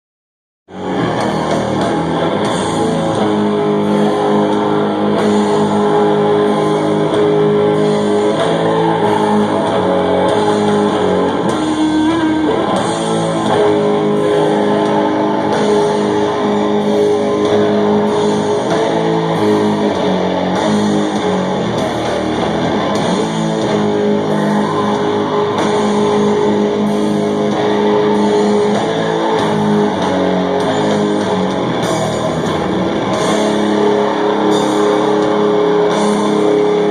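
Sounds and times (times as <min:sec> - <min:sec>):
heavy metal guitar and bass: 0:00.7 - 0:36.9.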